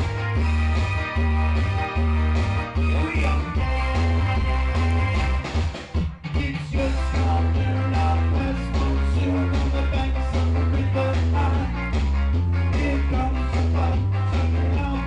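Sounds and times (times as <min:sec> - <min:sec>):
amplified rock music: 0:00.0 - 0:15.0.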